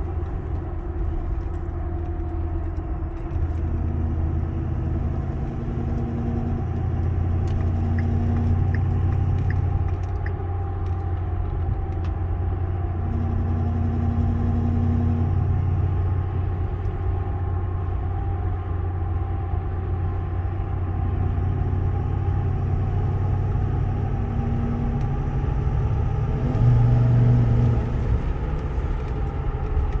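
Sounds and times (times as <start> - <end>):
diesel truck engine rumble: 0.0 - 30.0
low engine hum: 0.0 - 30.0.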